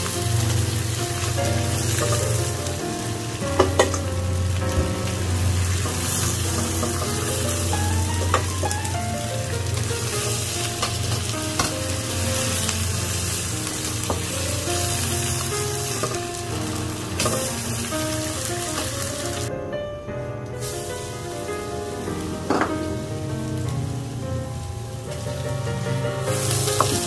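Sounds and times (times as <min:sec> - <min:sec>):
food sizzling in a hot pan: 0:00.0 - 0:19.5, 0:20.6 - 0:27.0
soft background music: 0:00.0 - 0:27.0.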